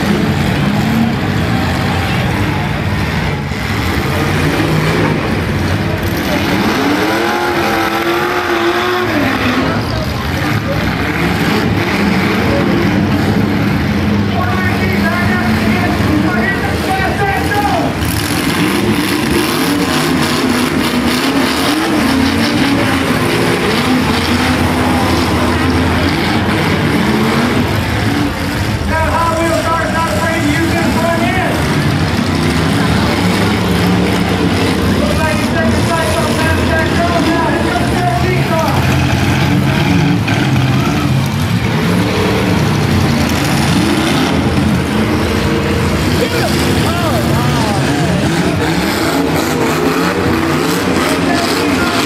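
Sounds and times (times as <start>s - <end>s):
car engines revving unevenly: 0.0s - 52.0s
crowd and arena noise: 0.0s - 52.0s.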